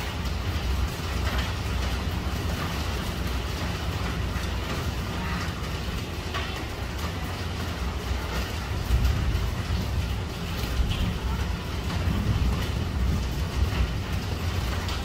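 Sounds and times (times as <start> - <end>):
heavy rain on a tiled roof: 0.0 - 15.0.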